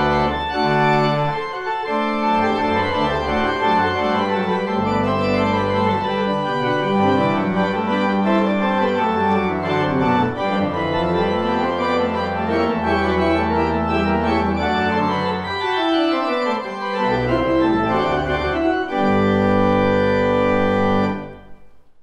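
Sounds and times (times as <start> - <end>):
pipe organ chords: 0.0 - 21.9.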